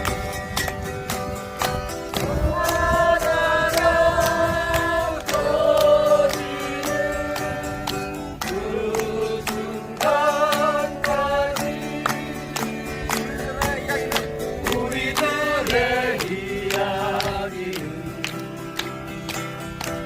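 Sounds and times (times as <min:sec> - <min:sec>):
strummed acoustic guitar: 0:00.0 - 0:20.0
voices singing together: 0:02.1 - 0:19.1.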